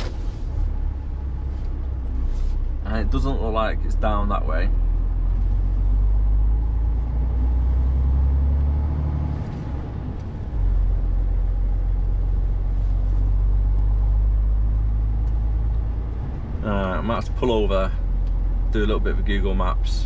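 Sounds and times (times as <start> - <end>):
lorry diesel engine rumble: 0.0 - 20.0.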